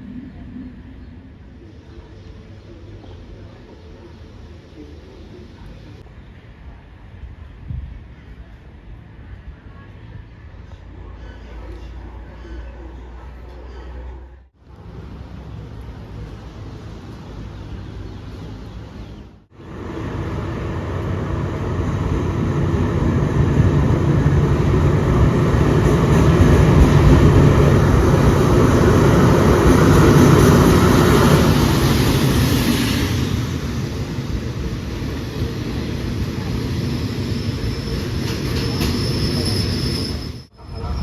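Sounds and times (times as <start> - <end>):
diesel train passing: 0.0 - 41.0.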